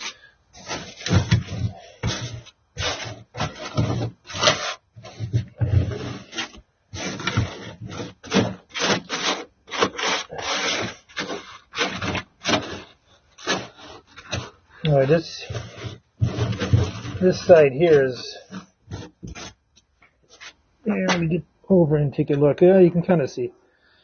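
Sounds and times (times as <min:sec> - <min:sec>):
scraping material off metal floor: 0:00.0 - 0:19.6.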